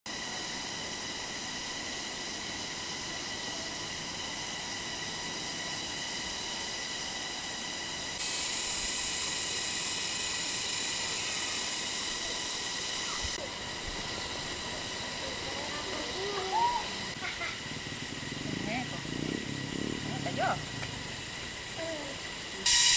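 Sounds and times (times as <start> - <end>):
shrill insect chorus: 0.1 - 22.9.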